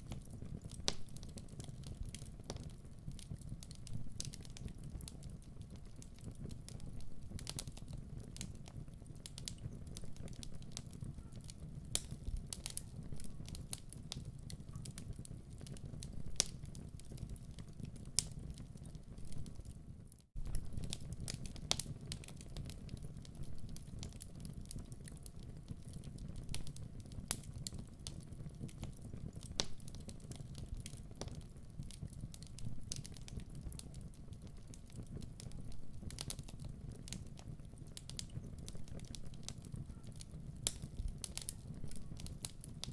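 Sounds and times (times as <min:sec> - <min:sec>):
fireplace fire crackling: 0:00.0 - 0:42.9.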